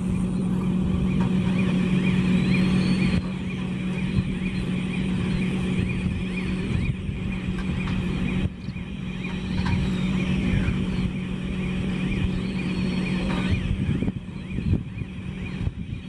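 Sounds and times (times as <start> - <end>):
constant low hum: 0.0 - 16.0
heavy machinery engine drone: 0.0 - 16.0.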